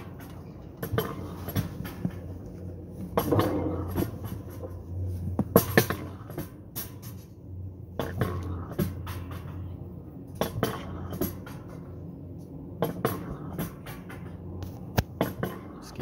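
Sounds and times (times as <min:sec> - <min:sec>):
coaster lift low hum: 0:00.0 - 0:16.0
track clicks and clacks: 0:00.0 - 0:16.0.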